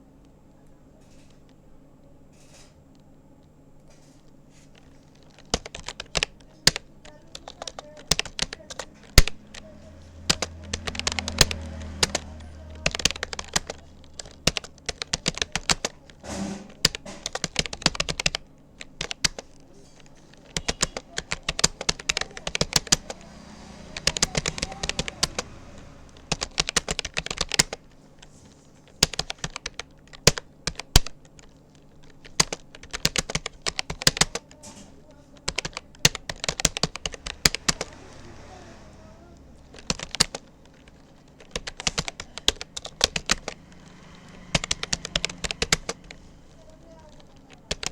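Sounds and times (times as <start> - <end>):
computer keyboard typing: 2.4 - 47.9.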